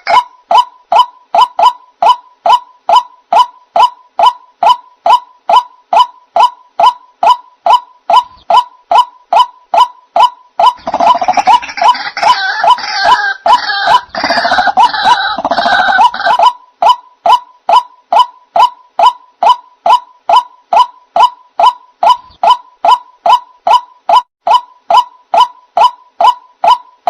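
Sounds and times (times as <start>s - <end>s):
bird kwak calls: 0.0s - 27.0s
chorus of bird calls: 0.0s - 27.0s.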